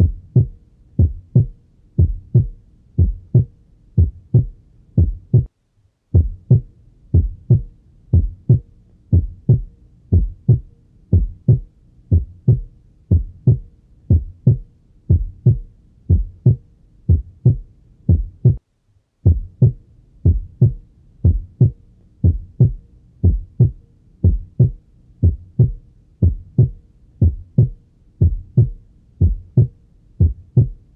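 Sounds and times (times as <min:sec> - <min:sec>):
heartbeat lub-dub: 0:00.0 - 0:05.5, 0:06.1 - 0:18.6, 0:19.2 - 0:30.9.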